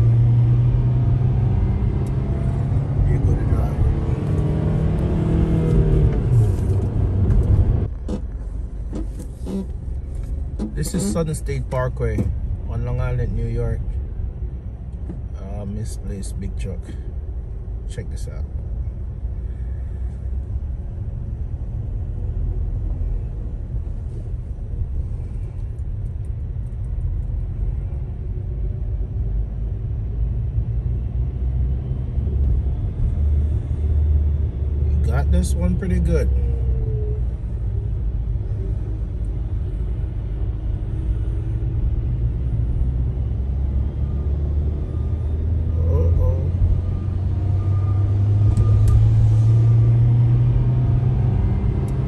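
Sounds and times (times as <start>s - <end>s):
car tyre and engine rumble: 0.0s - 52.0s.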